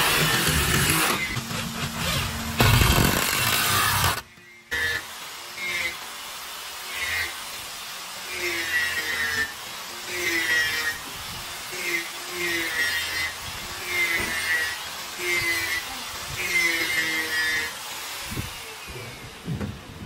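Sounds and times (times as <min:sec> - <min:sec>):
repeated tool strokes: 0:00.0 - 0:19.3
power tool running: 0:00.0 - 0:19.6.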